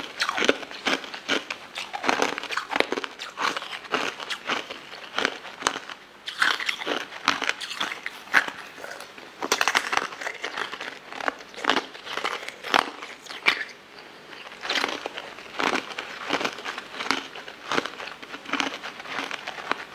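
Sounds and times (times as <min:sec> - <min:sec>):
crunchy eating bites: 0:00.0 - 0:19.9.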